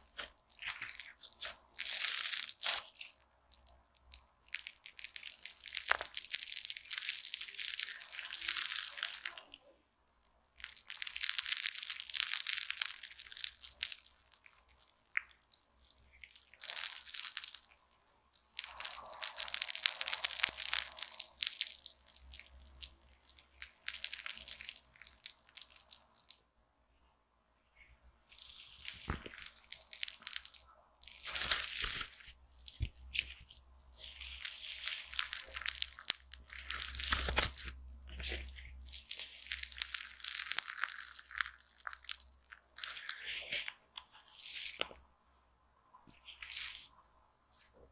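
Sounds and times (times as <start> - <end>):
slime squeezed and crackling: 0.0 - 26.4, 28.2 - 45.0, 46.1 - 46.9.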